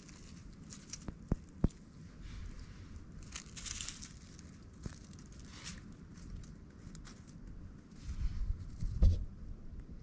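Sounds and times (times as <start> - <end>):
crinkly rustling and crunching: 0.0 - 9.0.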